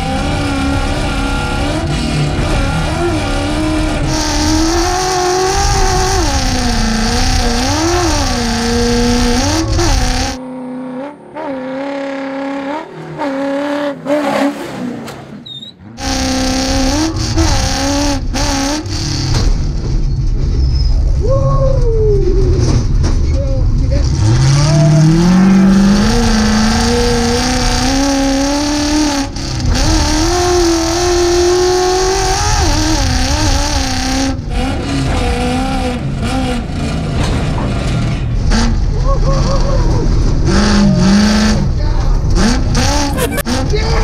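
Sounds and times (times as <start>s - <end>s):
truck engine revving: 0.0s - 21.2s, 22.5s - 44.0s
road noise: 0.0s - 44.0s.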